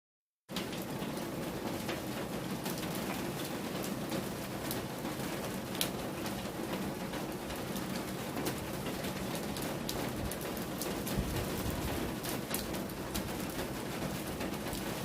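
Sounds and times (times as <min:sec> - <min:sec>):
steady rain falling: 0:00.5 - 0:15.0.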